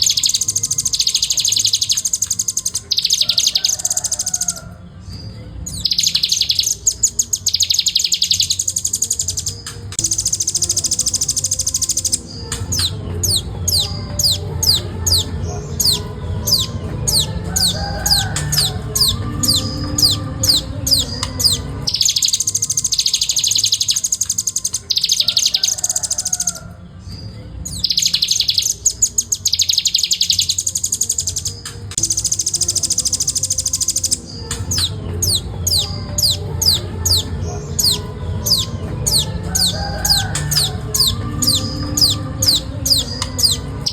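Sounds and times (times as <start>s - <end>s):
bird whistling and trilling: 0.0s - 43.9s.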